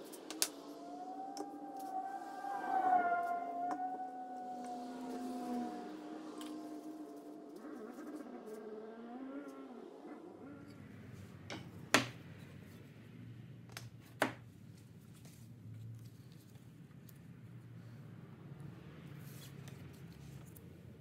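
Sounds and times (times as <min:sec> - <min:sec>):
faint music: 0:00.0 - 0:21.0.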